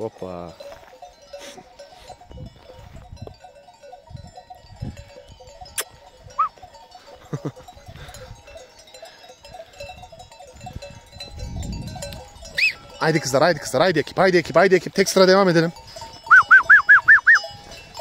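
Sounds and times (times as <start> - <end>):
sheep bells jingling: 0.0 - 18.0.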